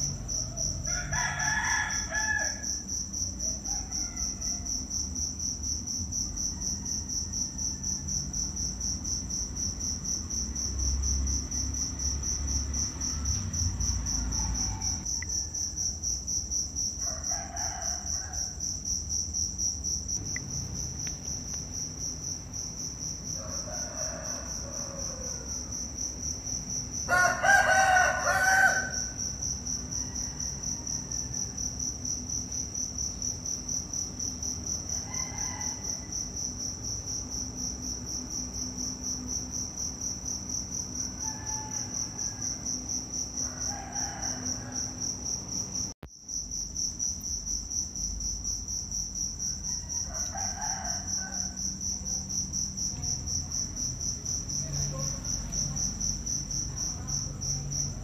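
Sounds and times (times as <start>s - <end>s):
insects chirping trill: 0.0s - 58.0s.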